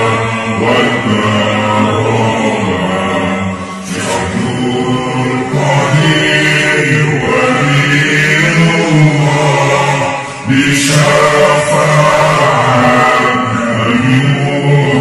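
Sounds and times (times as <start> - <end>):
person chanting a devotional song: 0.0 - 15.0.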